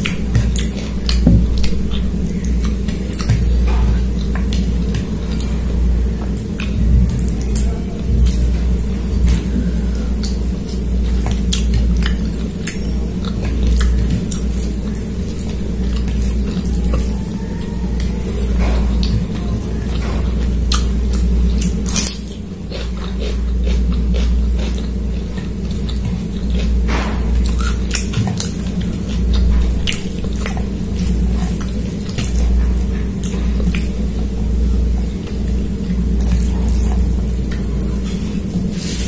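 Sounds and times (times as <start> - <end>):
steady low hum: 0.0 - 39.0
wet chewing: 0.0 - 39.0.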